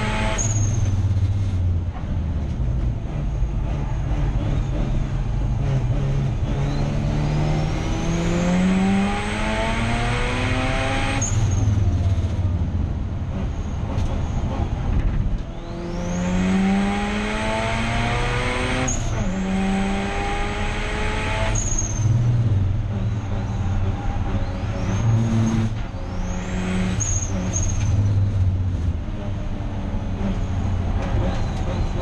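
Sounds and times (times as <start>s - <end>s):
rotary race car engine revving: 2.4s - 12.2s, 13.2s - 32.0s.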